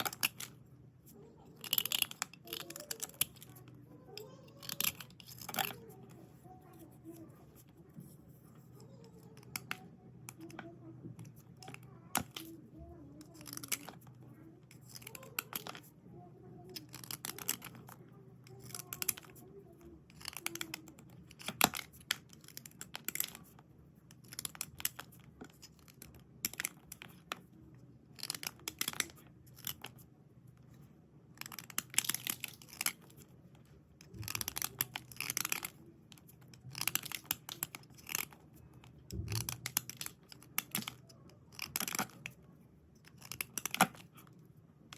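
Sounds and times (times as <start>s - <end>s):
pencils scraping: 0.0s - 16.0s, 16.6s - 27.5s, 28.1s - 30.0s, 30.7s - 44.4s.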